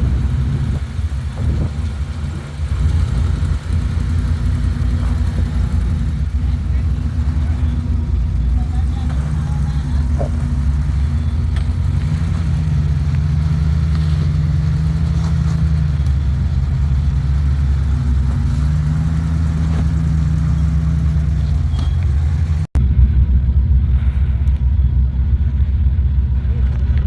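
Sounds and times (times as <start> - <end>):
off-road engine running: 0.0 - 27.0.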